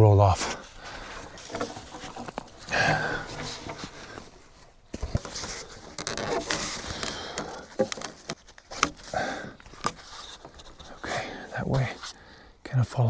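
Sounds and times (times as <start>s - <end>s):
cord rustling and scraping: 0.4s - 12.2s.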